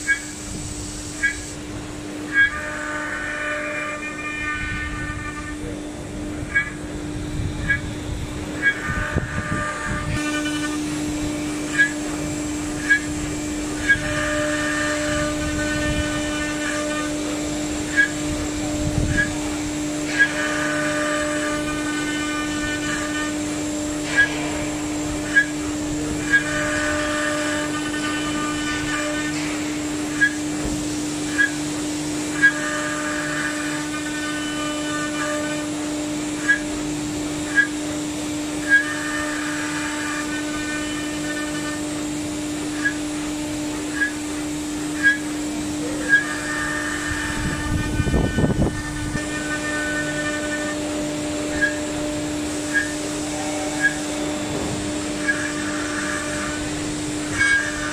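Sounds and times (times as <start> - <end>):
axis drives whining: 0.0 - 57.9
router spindle whine: 0.0 - 57.9.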